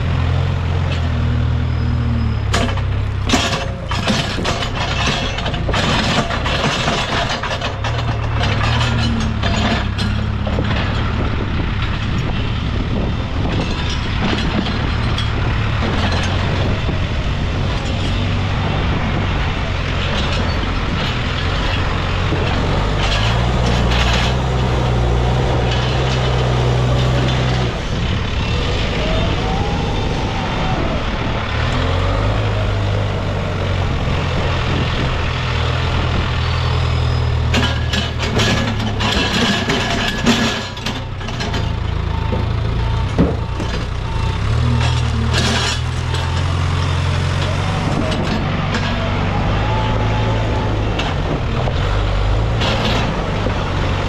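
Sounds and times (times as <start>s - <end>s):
diesel engine running: 0.0s - 54.0s
knocks and clatter: 2.4s - 29.0s, 31.4s - 54.0s.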